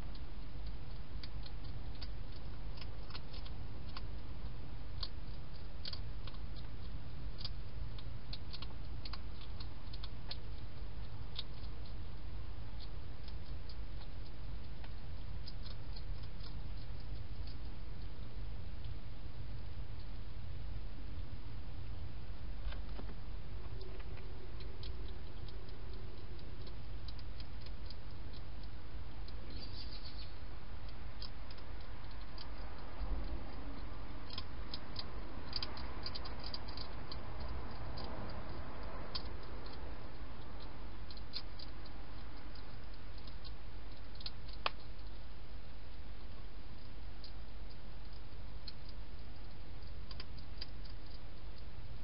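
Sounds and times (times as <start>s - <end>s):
hedgehog chewing clicks: 0.0s - 52.0s
steady low hum: 0.0s - 52.0s.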